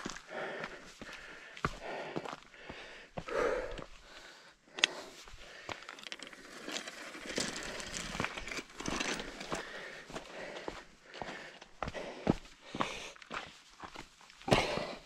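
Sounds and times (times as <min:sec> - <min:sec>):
footsteps on trail: 0:00.0 - 0:15.0.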